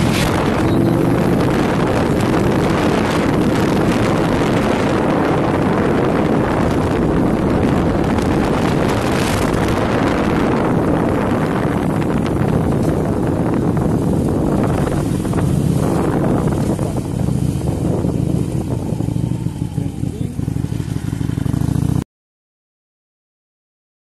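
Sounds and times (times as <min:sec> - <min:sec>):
motorbike engine running: 0:00.0 - 0:22.0
wind rushing over microphone: 0:00.0 - 0:22.0.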